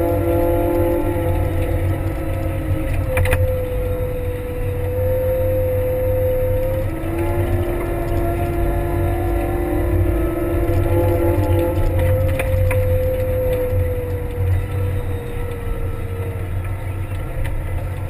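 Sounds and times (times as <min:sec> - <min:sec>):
diesel engine running under load: 0:00.0 - 0:18.0
engine whine: 0:00.0 - 0:18.0.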